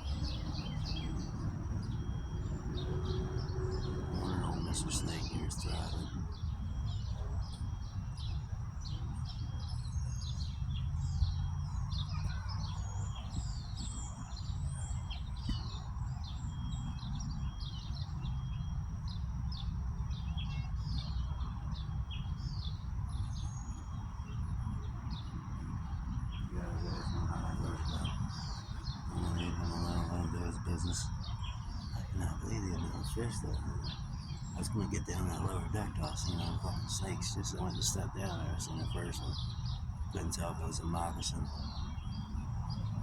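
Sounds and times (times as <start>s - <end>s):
birds chirping: 0.0s - 43.0s
wind rumble on microphone: 0.0s - 43.0s.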